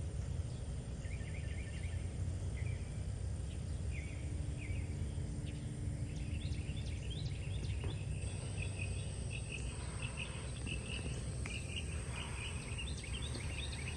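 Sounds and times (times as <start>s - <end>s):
steady low rumble: 0.0s - 13.9s
small birds chirping: 0.2s - 13.9s.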